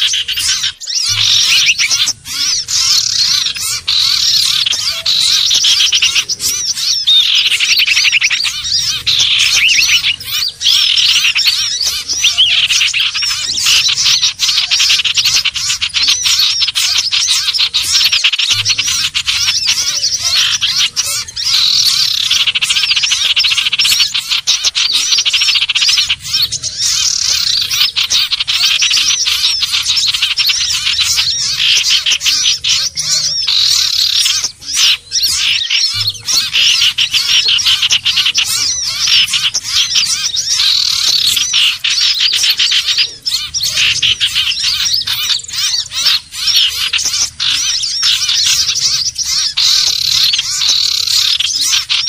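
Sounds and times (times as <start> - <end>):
bird chattering chirps and trills: 0.0 - 52.0.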